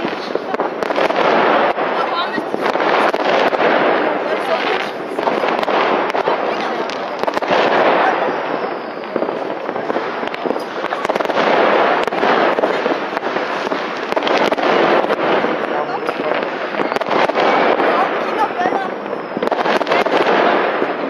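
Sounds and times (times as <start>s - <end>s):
fireworks and firecrackers bangs: 0.0s - 21.0s
rocket bursts: 0.0s - 21.0s.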